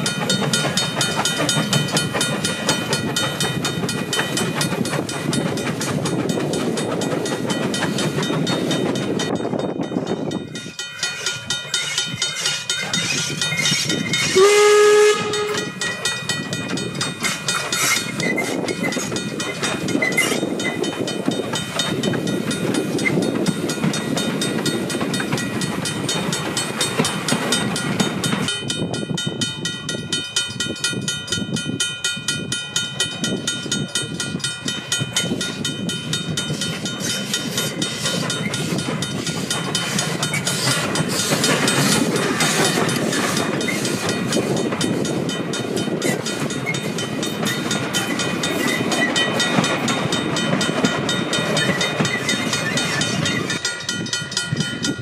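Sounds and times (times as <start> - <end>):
rail clatter: 0.0 - 55.0
steam locomotive chuffing: 0.0 - 55.0.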